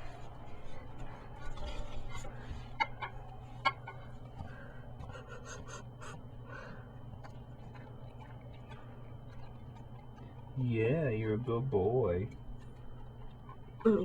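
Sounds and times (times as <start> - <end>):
dog licking and eating: 0.0 - 14.0
low hum: 0.0 - 14.0.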